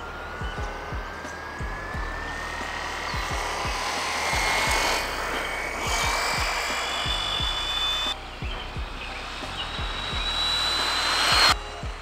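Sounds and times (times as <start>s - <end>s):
electric toy car motor whine: 0.0s - 12.0s
music with deep bass thumps: 0.0s - 12.0s.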